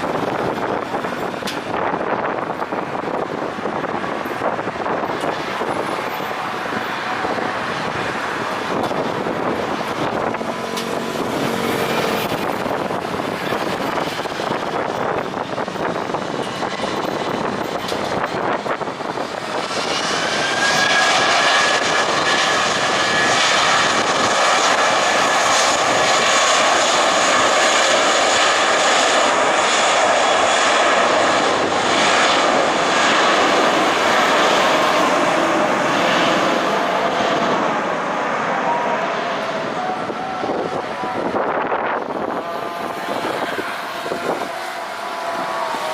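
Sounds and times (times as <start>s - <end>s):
jet engines whining: 0.0s - 45.9s
wind on microphone: 0.0s - 45.9s.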